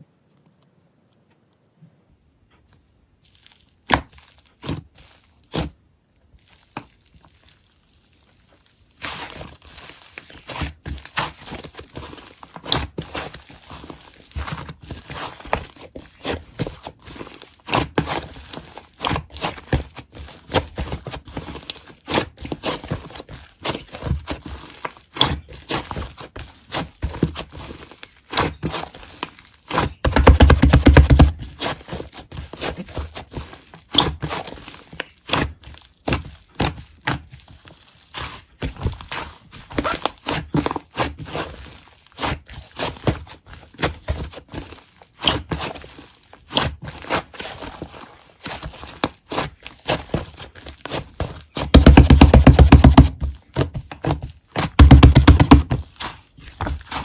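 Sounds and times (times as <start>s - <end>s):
crinkling and rustling handling noise: 0.2s - 57.0s.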